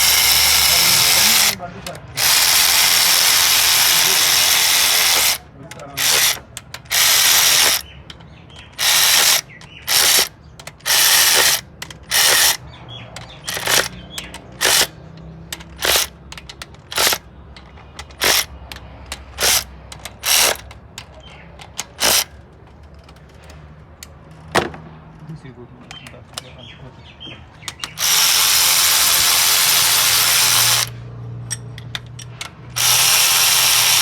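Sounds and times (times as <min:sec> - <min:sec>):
ratchet wrench clicking: 0:00.0 - 0:22.4, 0:27.6 - 0:34.0.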